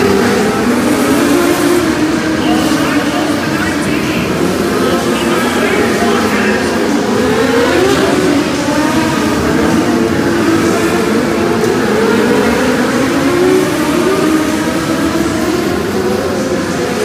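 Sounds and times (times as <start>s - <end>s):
motorsport engines revving: 0.0s - 17.0s.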